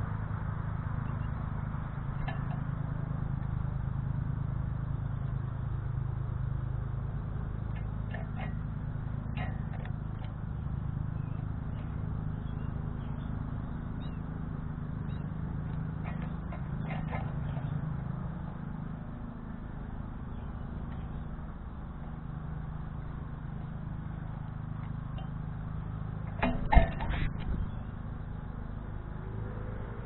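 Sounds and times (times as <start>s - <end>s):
low hum and rumble: 0.0s - 30.0s.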